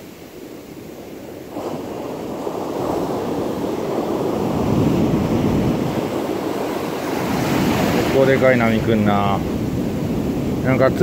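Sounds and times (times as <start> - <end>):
wave breaking on beach: 0.0 - 11.0.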